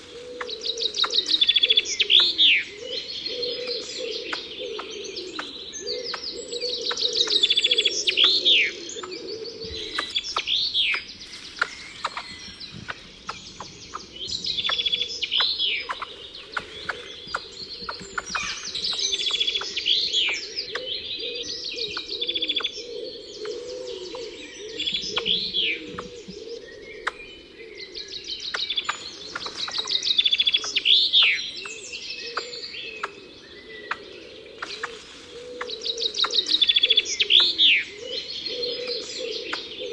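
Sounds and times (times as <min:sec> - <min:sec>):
rapid bird chirps and ticks: 0:00.4 - 0:02.6, 0:03.8 - 0:27.4, 0:28.1 - 0:39.9.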